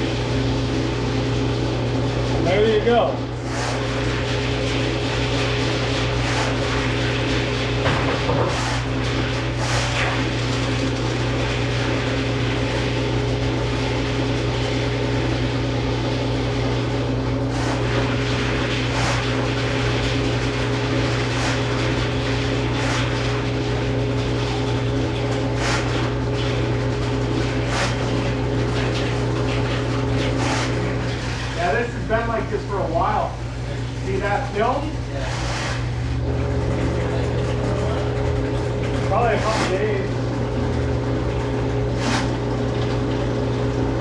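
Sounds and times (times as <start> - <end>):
drain cleaning machine motor hum: 0.0 - 44.0.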